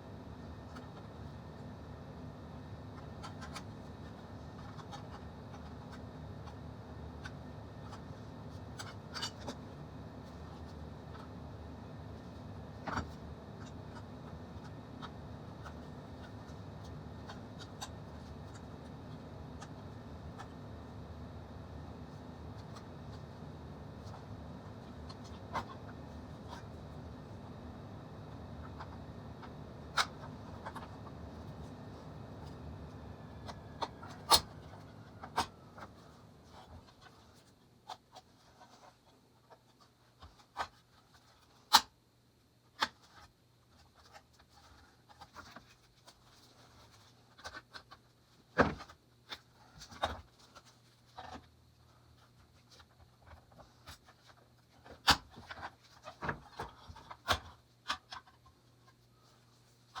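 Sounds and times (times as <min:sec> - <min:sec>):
faint steady hum: 0:00.0 - 1:00.0.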